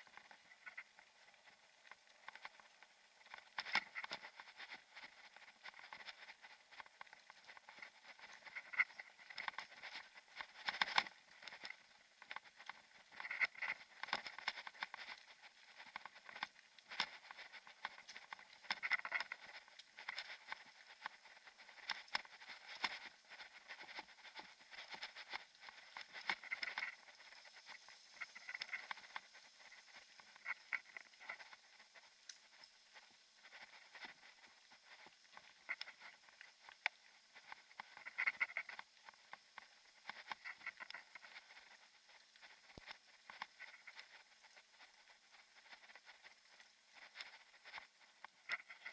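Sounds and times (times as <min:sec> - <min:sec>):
bicycle rattling on gravel: 0:00.0 - 0:48.9
light hiss: 0:00.0 - 0:48.9.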